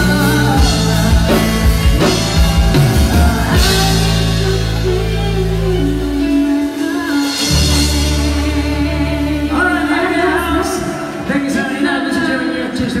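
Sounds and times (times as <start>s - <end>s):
woman singing long notes: 0.0s - 11.2s
live band playing a pop ballad: 0.0s - 13.0s.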